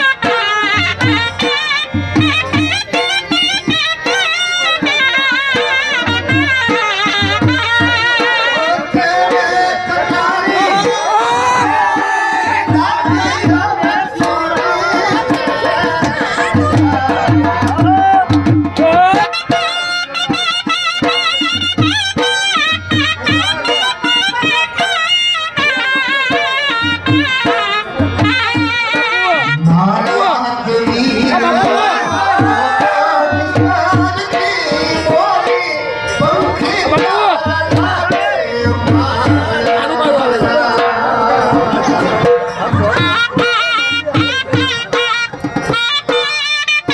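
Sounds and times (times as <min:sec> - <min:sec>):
double-reed pipe melody: 0:00.0 - 0:38.8
drum beating steady rhythm: 0:00.0 - 0:46.9.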